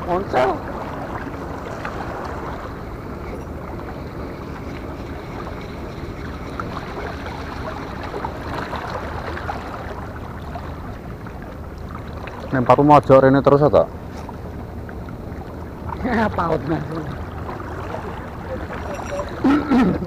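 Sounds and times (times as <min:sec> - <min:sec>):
sea water washing against rocks: 0:00.0 - 0:20.0.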